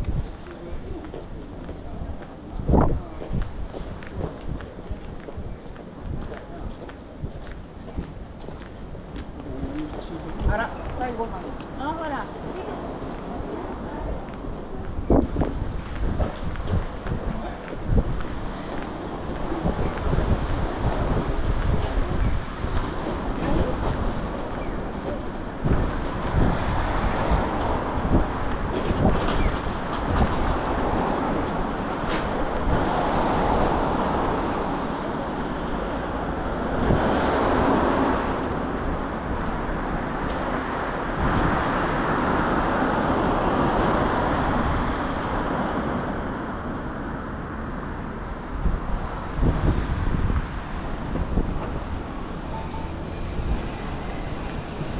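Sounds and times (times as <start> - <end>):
city street traffic: 0.0 - 54.9
streetcar rumbling past: 0.0 - 54.9.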